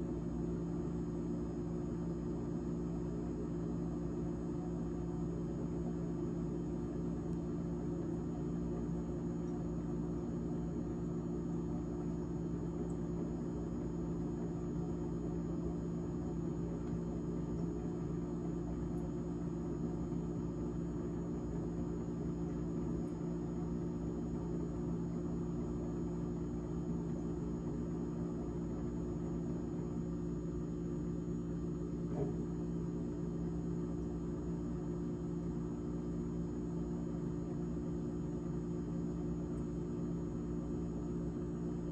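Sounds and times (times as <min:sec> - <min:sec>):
refrigerator fan humming: 0:00.0 - 0:41.9.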